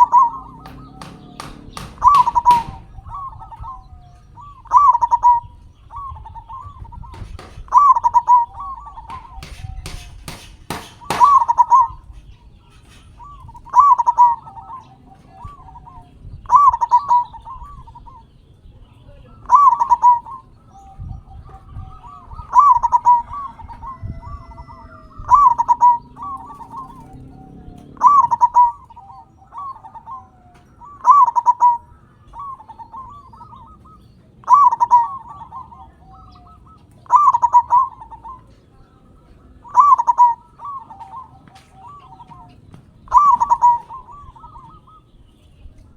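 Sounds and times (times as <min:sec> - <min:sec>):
dove cooing: 0:00.0 - 0:18.4, 0:19.1 - 0:45.9.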